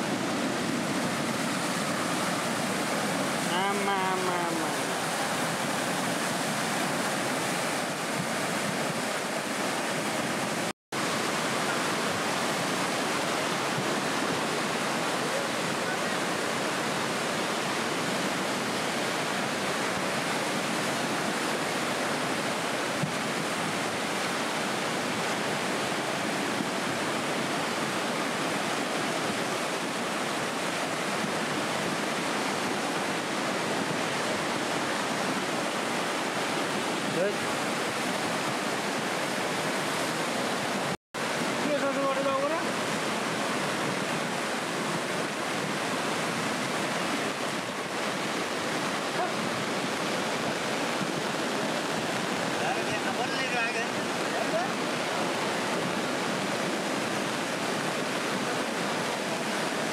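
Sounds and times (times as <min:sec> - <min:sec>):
floodwater rushing in a river: 0:00.0 - 0:59.9.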